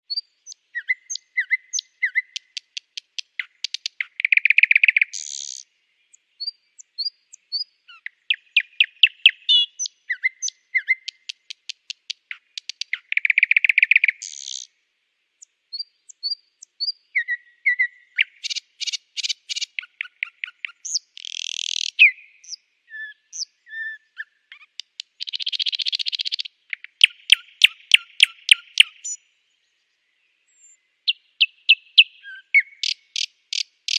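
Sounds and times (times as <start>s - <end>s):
nightingale singing: 0.0s - 14.8s, 15.4s - 33.9s.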